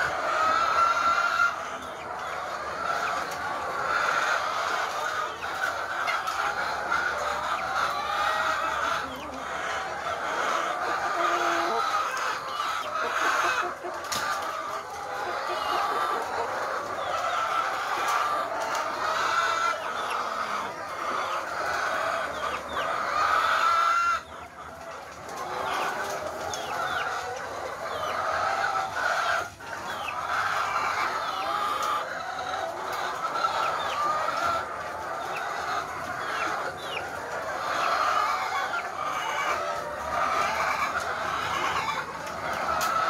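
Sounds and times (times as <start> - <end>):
hens clucking: 0.0 - 43.0.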